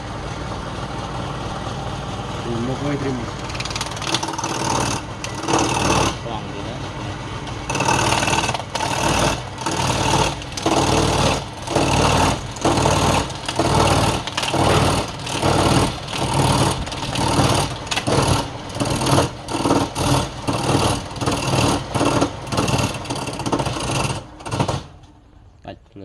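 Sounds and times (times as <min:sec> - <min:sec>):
woodworking machine motor hum: 0:00.0 - 0:25.2
machine cutting into wood: 0:03.0 - 0:06.5, 0:07.5 - 0:25.0.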